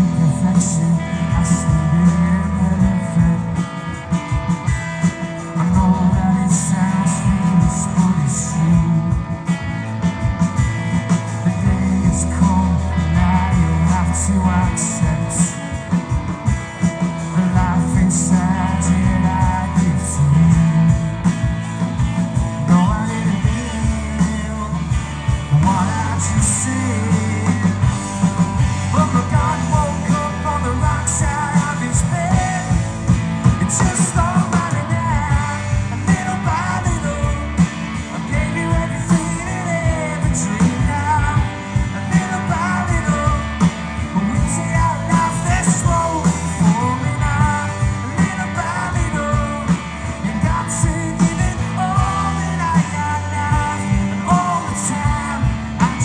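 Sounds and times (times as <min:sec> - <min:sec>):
bass guitar: 0:00.0 - 0:56.0
drums: 0:00.0 - 0:56.0
electric guitars: 0:00.0 - 0:56.0
lead singer: 0:00.0 - 0:56.0.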